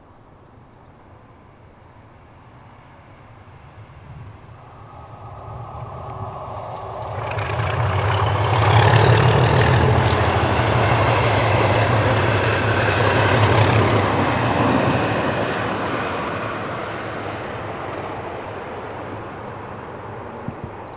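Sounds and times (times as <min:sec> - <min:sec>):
diesel locomotive passing: 0:01.1 - 0:20.9.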